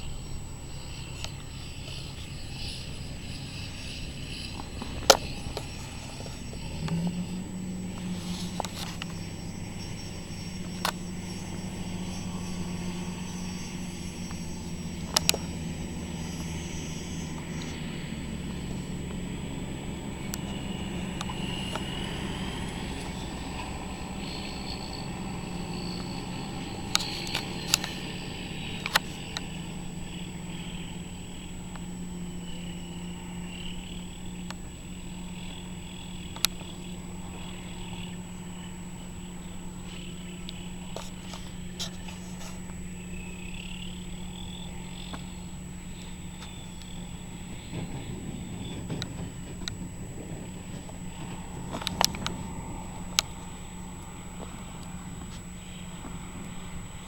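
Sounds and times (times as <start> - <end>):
harvester engine humming: 0.0 - 57.0.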